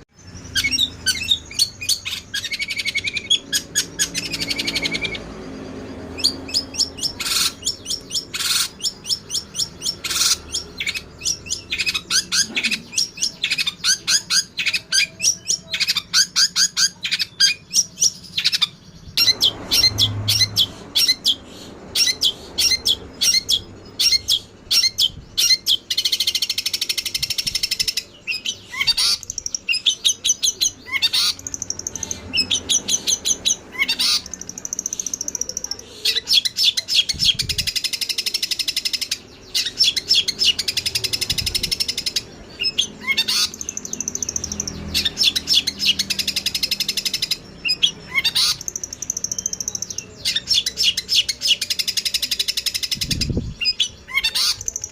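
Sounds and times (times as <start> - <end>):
harsh rasping bird chatter: 0.0 - 54.9
songbirds chirping: 0.0 - 54.9.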